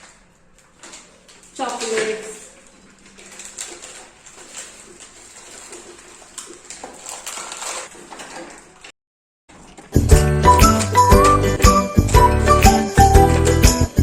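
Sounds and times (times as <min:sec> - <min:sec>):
packets and containers being handled: 0:00.0 - 0:08.9, 0:09.5 - 0:13.9.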